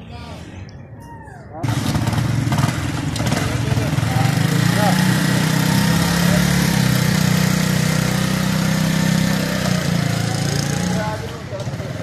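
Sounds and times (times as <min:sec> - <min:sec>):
small motorcycle engine: 0:01.6 - 0:12.0.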